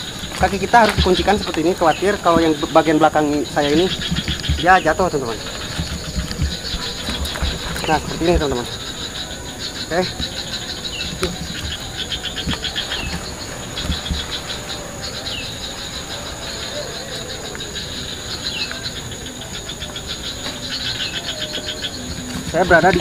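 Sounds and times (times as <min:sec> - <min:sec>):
high-pitched drone: 0:00.0 - 0:23.0
insects chirping in trills: 0:00.0 - 0:23.0.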